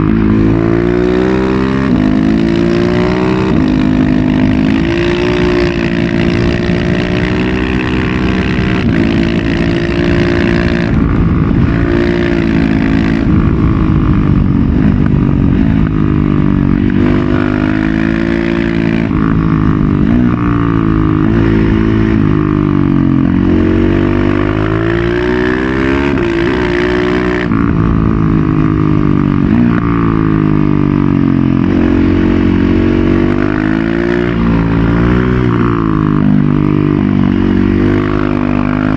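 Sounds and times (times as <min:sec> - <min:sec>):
loud motorcycle engine accelerating: 0:00.0 - 0:38.9.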